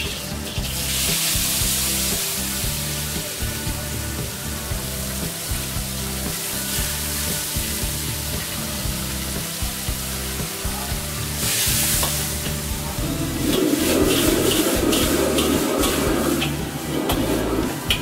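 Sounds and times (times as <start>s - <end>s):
squid sizzling in a wok: 0.1s - 18.0s.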